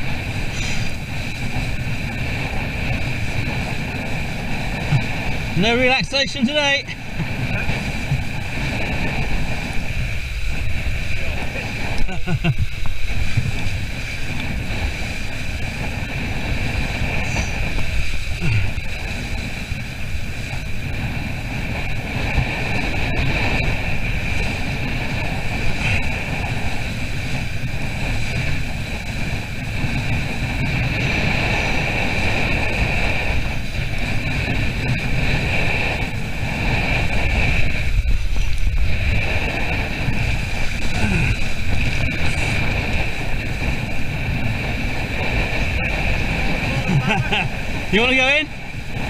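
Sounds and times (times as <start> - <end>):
water splashing along boat hull: 0.0 - 49.0
wind rumbling on microphone: 0.0 - 49.0.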